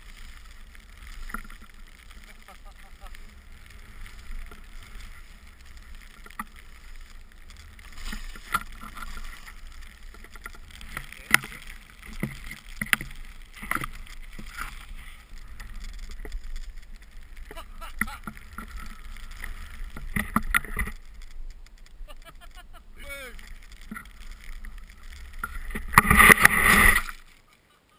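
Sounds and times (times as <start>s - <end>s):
skis swishing through snow: 0.0s - 27.8s.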